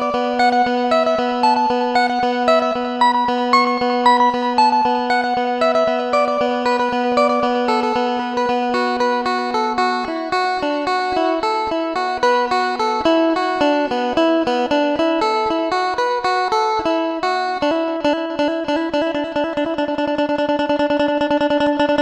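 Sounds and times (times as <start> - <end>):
plucked-string melody: 0.0 - 22.0.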